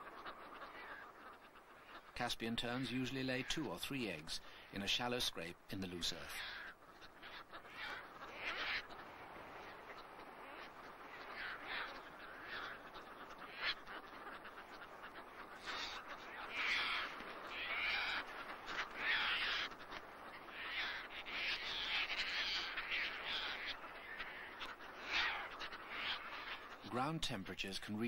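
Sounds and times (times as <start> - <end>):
terns calling: 0.0 - 27.8.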